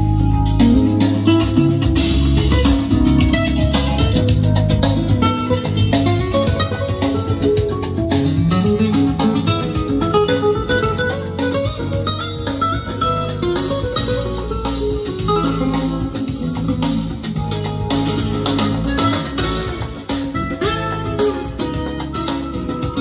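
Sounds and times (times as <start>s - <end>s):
guitar-led music over loudspeakers: 0.0s - 23.0s.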